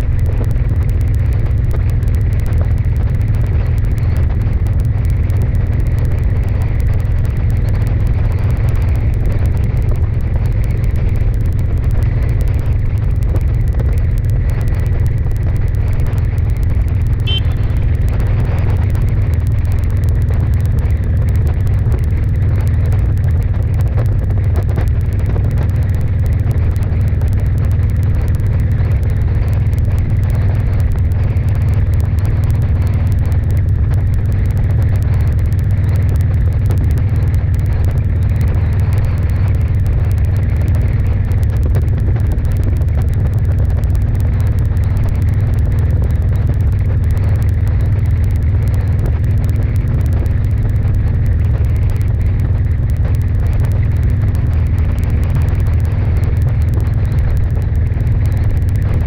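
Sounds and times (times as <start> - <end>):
faint steady hum: 0.0 - 59.0
vehicle driving rumble: 0.0 - 59.0
wind on microphone: 0.0 - 59.0.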